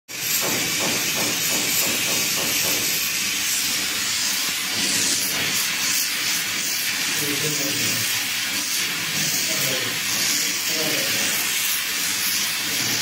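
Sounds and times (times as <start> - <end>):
torch flame hissing: 0.1 - 13.0.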